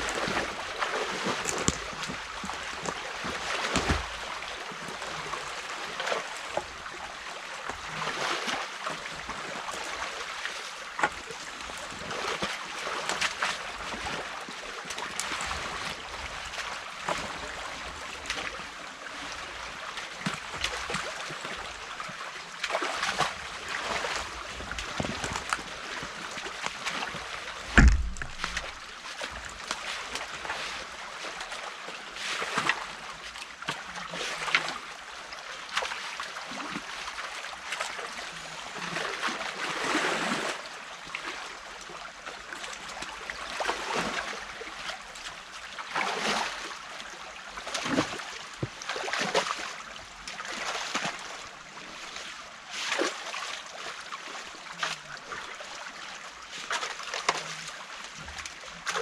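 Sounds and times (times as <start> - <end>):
stream water running: 0.0 - 59.0
water splashing and sloshing: 0.0 - 59.0.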